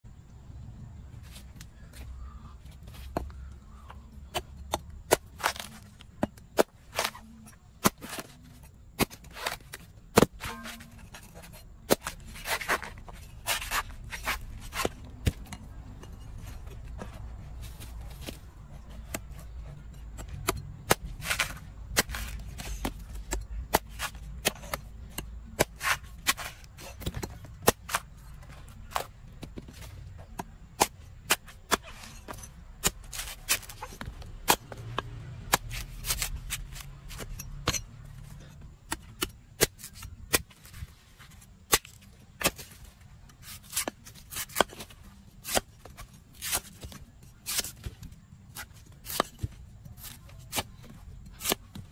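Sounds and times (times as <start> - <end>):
cleaver chopping coconut on wood: 3.1 - 17.1, 18.2 - 37.9, 41.7 - 51.9.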